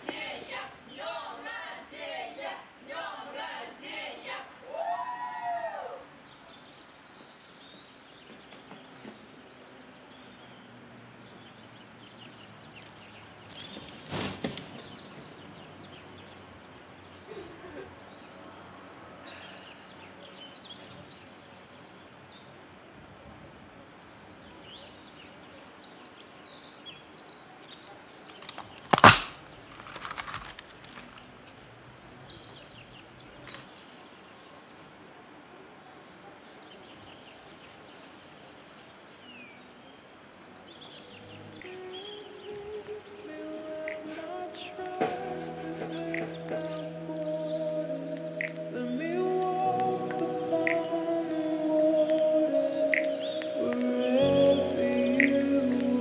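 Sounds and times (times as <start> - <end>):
small birds chirping: 6.0 - 23.0, 23.6 - 56.0.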